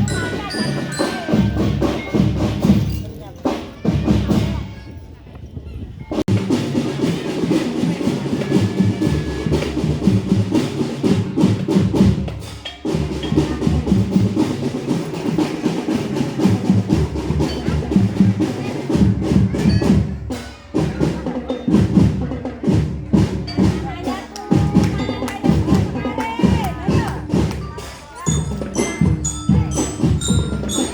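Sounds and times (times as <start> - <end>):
marching drum band playing: 0.0 - 4.8, 6.2 - 30.9.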